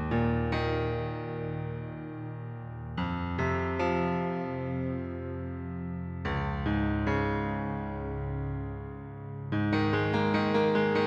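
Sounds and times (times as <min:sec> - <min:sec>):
slow soft piano piece: 0:00.0 - 0:11.0.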